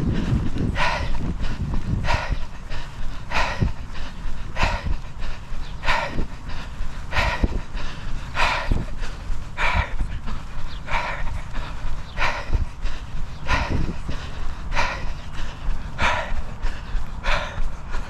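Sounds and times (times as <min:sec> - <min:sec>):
person breathing hard: 0:00.0 - 0:18.0.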